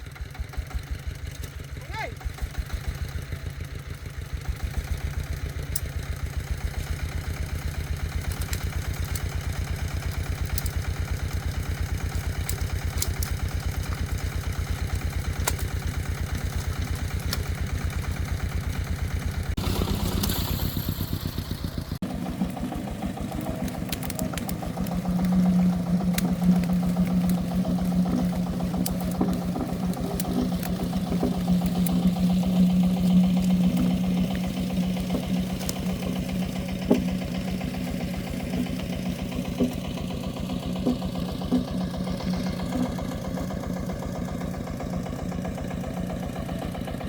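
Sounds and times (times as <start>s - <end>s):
diesel engine chugging: 0.0s - 47.0s.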